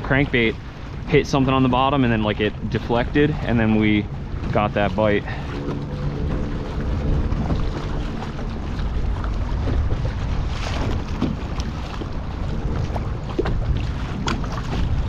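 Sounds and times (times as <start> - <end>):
water slapping kayak hull: 0.0 - 15.0
wind buffeting microphone: 0.0 - 15.0.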